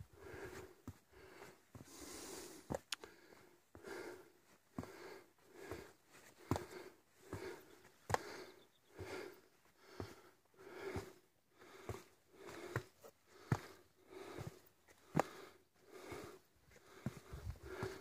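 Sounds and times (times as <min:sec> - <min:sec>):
person panting: 0:00.0 - 0:18.0
footsteps on rocky trail: 0:00.2 - 0:18.0.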